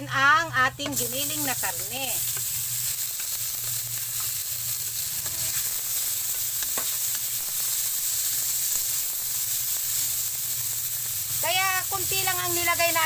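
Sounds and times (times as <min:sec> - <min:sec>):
meat sizzling in oil: 0:00.0 - 0:13.0
spatula scraping wok: 0:00.8 - 0:13.0.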